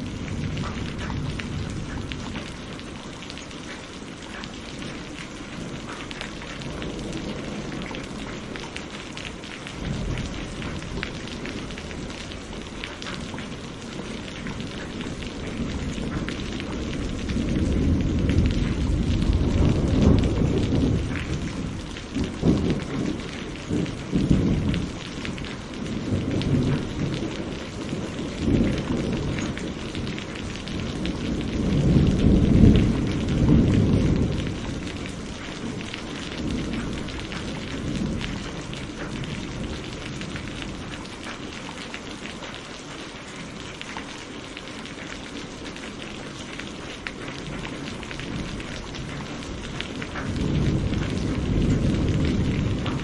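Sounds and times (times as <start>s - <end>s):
thunder rumbling: 0.0s - 42.4s, 44.8s - 53.0s
steady rain: 0.0s - 53.0s.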